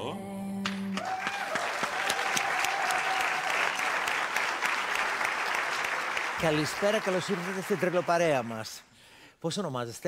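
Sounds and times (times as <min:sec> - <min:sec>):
audience applauding: 0:00.6 - 0:08.8.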